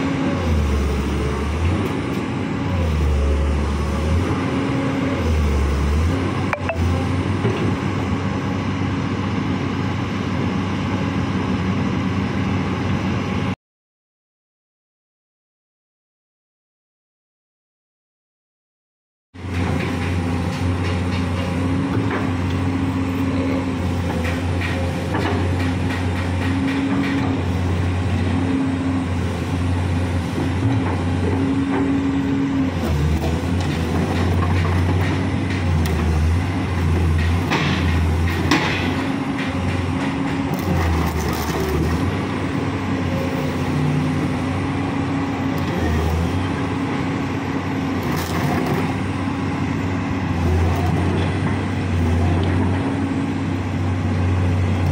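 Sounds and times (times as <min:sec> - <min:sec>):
excavator diesel engine running: 0:00.0 - 0:13.6, 0:19.4 - 0:54.9.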